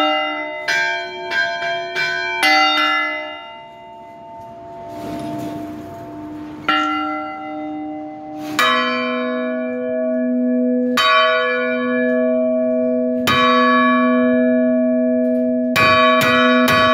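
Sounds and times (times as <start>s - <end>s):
church bell struck: 0.0s - 16.9s
lower-pitched bell ringing: 0.0s - 16.9s.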